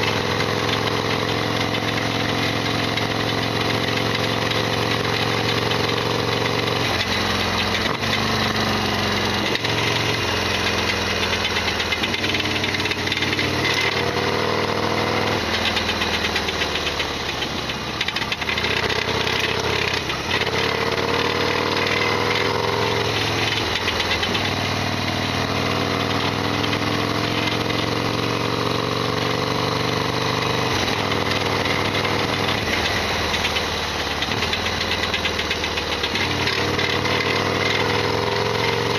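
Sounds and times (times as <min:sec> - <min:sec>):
engine mechanical rattle: 0:00.0 - 0:38.9
motorcycle engine revving: 0:00.0 - 0:38.9.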